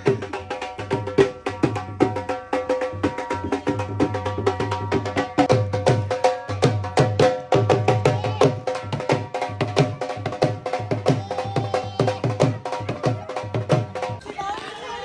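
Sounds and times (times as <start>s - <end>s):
barrel drum beaten with sticks: 0.0s - 14.2s.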